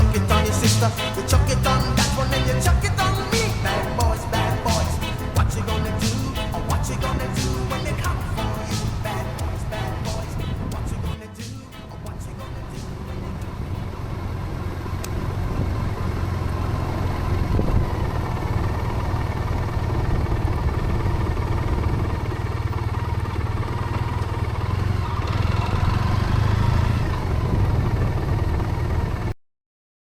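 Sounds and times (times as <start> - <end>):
motorcycle engine drone: 0.0 - 29.3.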